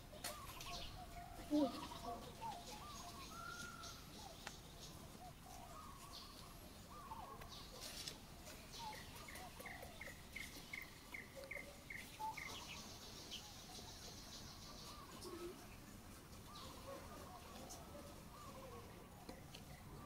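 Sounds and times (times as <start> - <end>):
bird calls: 0.0 - 20.0.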